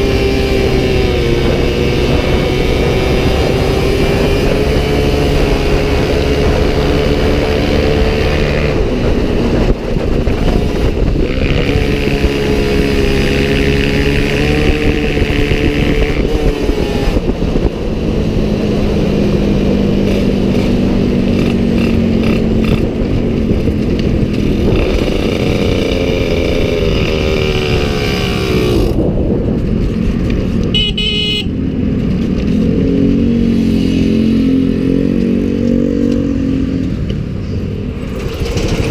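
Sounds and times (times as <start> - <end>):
motorcycle engines at speed: 0.0 - 38.9
wind noise: 0.0 - 38.9.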